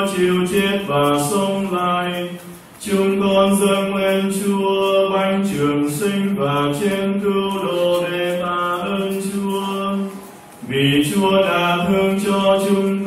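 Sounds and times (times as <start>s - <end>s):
voices singing liturgical chant: 0.0s - 13.0s.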